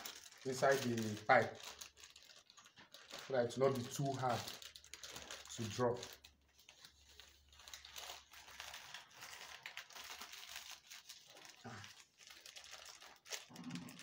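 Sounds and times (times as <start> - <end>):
plastic crinkling and rustling: 0.0 - 14.0.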